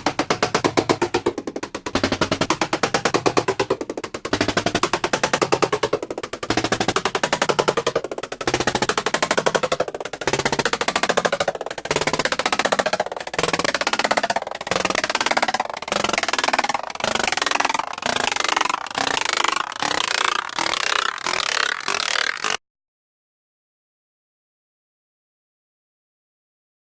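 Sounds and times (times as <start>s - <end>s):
looped banging rattle: 0.0s - 22.6s.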